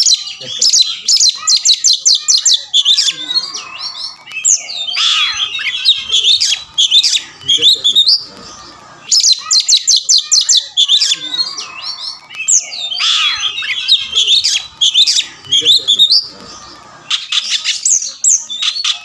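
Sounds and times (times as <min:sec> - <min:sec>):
songbird singing whistles and chirps: 0:00.0 - 0:19.0.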